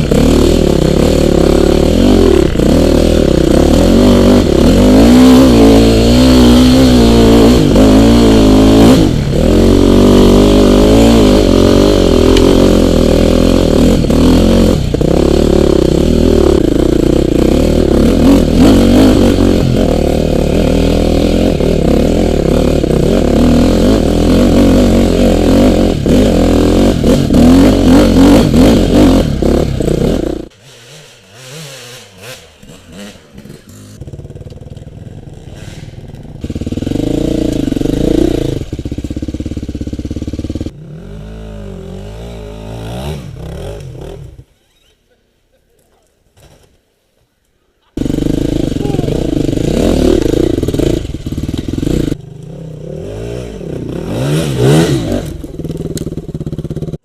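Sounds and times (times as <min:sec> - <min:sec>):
dirt bike engine revving: 0:00.0 - 0:44.6, 0:48.0 - 0:57.0.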